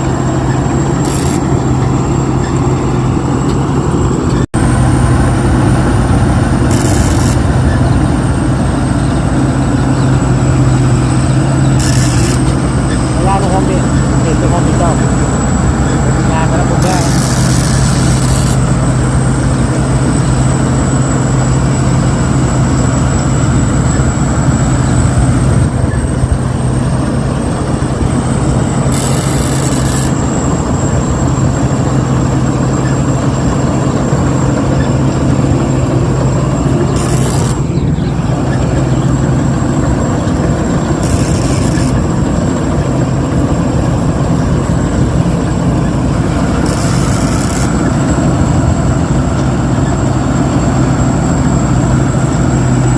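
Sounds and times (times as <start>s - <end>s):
combine harvester engine drone: 0.0s - 52.9s
thin high whine: 0.0s - 52.9s.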